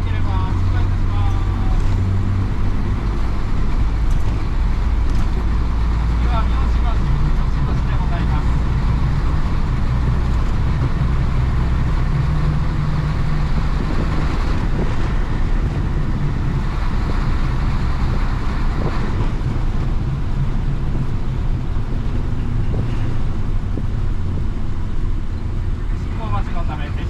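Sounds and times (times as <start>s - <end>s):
bus diesel engine running: 0.0s - 27.0s
road noise: 0.0s - 27.0s.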